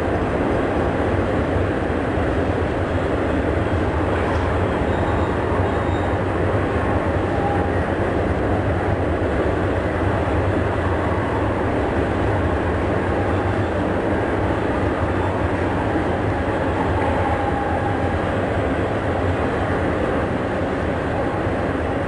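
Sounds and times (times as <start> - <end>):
train rolling on rails: 0.0 - 22.0.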